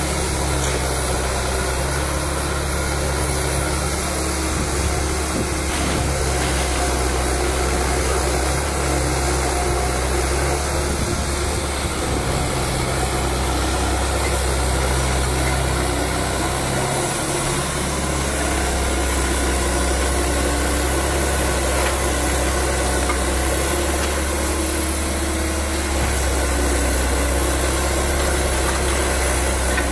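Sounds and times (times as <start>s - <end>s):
diesel engine running under load: 0.0s - 29.9s.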